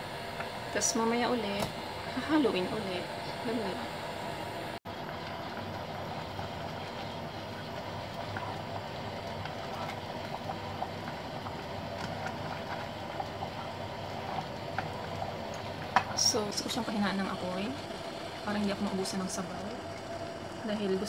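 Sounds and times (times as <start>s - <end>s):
gas burner hissing: 0.0s - 21.0s
pot simmering: 0.0s - 21.0s.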